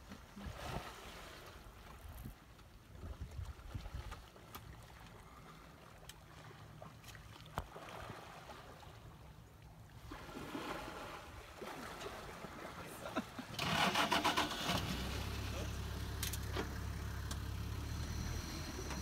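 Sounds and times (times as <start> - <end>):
water splashing and lapping: 0.0 - 19.0.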